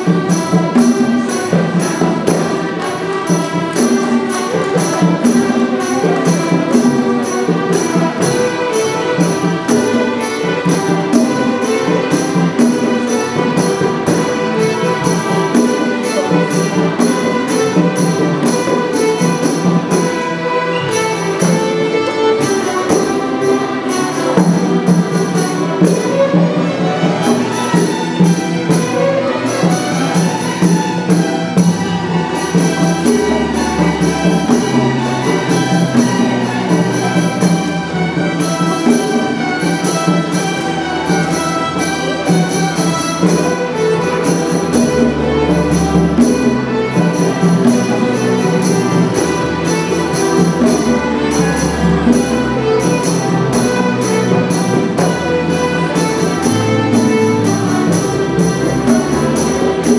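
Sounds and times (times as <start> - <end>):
orchestra playing lively piece: 0.0 - 59.9.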